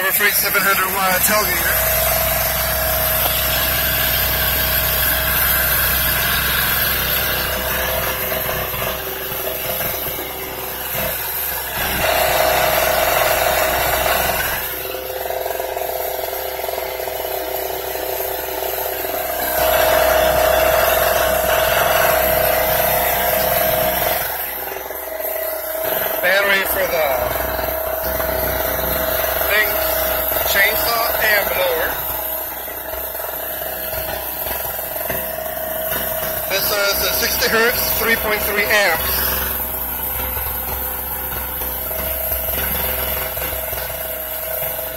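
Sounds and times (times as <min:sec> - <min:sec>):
generator engine running: 0:00.0 - 0:44.9.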